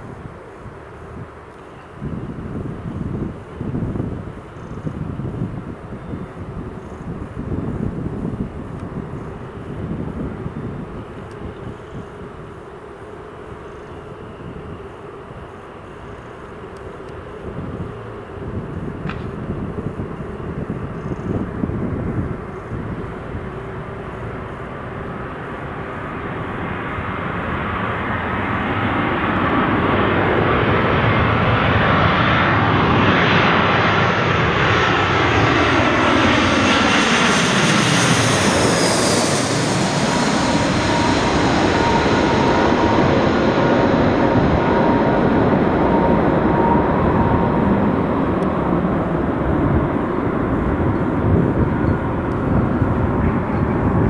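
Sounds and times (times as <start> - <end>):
jet airliner passing overhead: 0.0 - 54.0.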